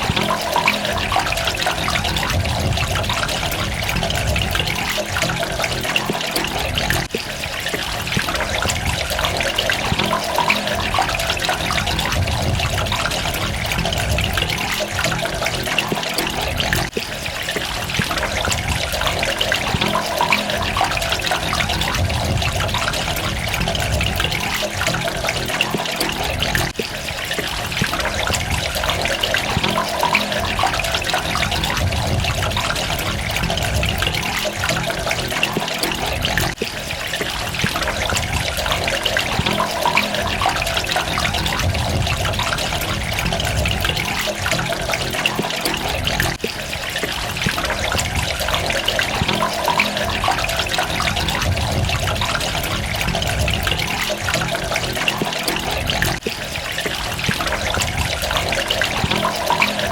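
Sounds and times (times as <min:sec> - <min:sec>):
water running and splashing: 0:00.0 - 0:59.9.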